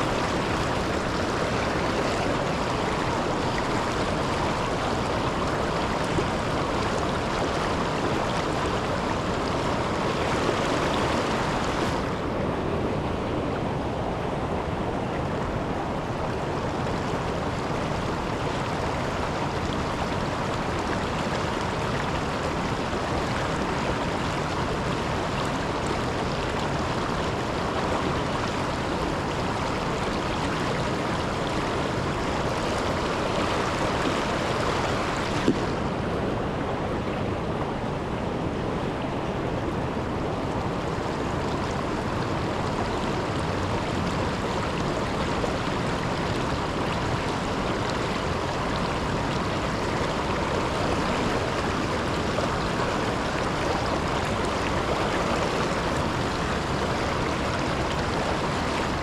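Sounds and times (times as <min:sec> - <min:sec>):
river water rushing at waterfall: 0:00.0 - 0:59.0.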